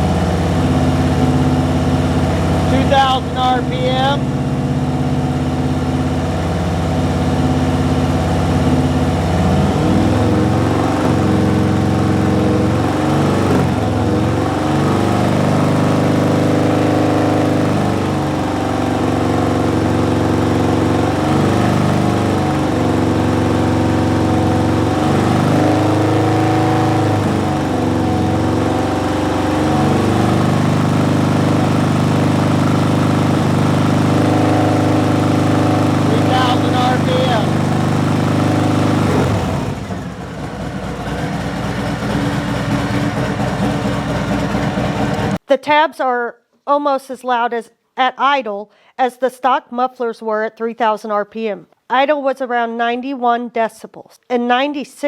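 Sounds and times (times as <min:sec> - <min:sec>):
motorcycle engine revving: 0:00.0 - 0:45.4.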